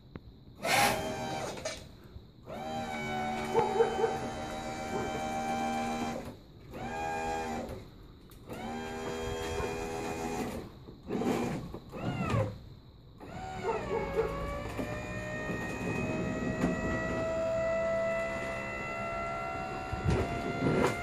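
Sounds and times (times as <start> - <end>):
hydraulic pump motor whining: 0.6 - 1.8, 2.5 - 7.8, 8.5 - 12.6, 13.2 - 21.0.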